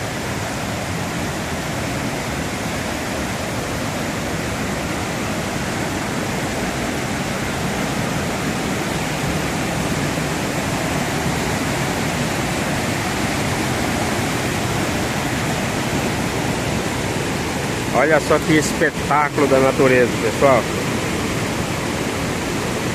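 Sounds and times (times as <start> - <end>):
waterfall crashing: 0.0 - 22.9.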